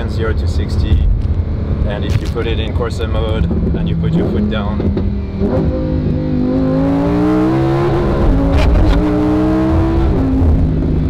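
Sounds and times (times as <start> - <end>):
car engine revving at full throttle: 0.0 - 11.0.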